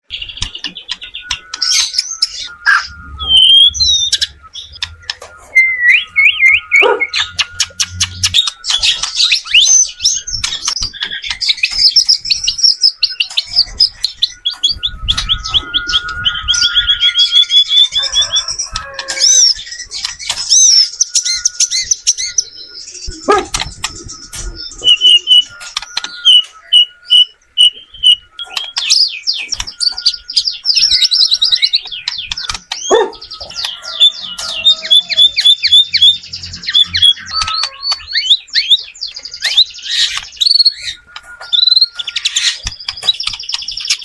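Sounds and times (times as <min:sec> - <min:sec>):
bird singing whistled song: 0:00.0 - 0:44.0.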